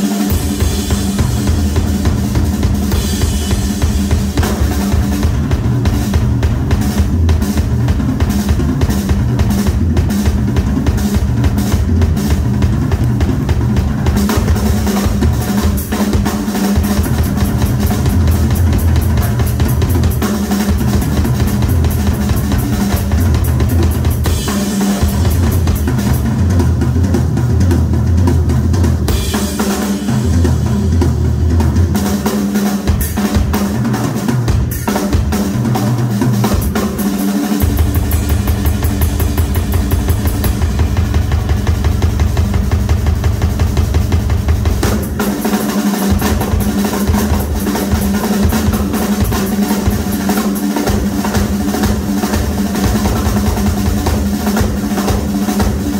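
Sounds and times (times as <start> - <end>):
rock drum solo: 0.0 - 55.9.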